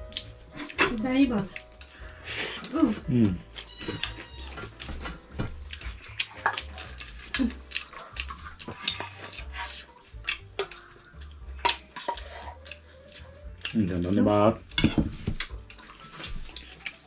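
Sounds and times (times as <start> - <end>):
person chewing: 0.0 - 0.8, 1.5 - 13.8, 14.6 - 17.0.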